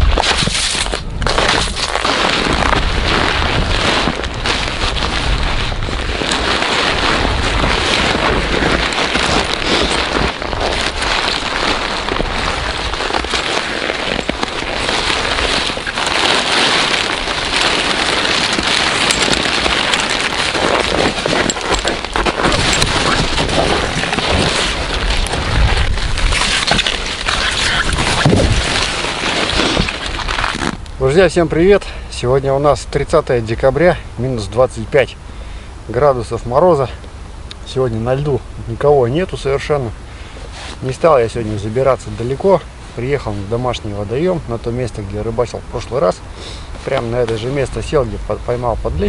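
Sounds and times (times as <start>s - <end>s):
tent fabric rustling and crackling: 0.0s - 31.8s, 37.9s - 49.0s.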